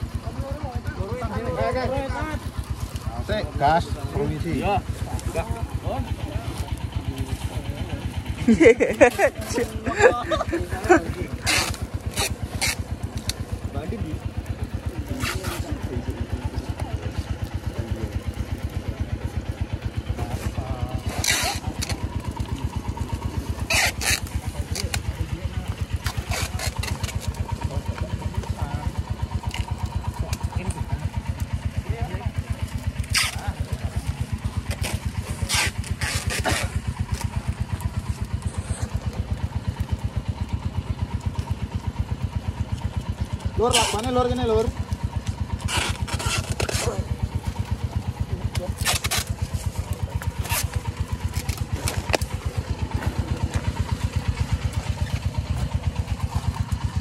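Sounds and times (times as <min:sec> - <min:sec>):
small engine idling: 0:00.0 - 0:57.0.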